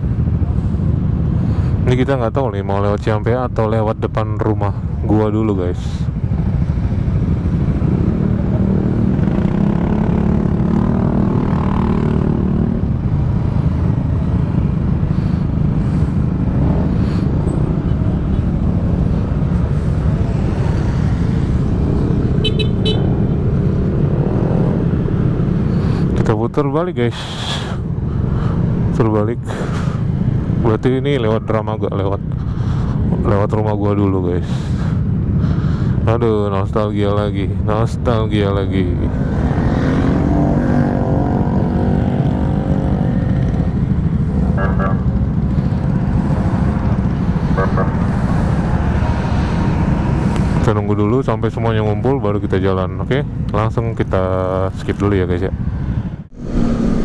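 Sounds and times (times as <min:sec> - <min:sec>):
motorcycle engines rumbling: 0:00.0 - 0:57.0
wind: 0:00.0 - 0:57.0.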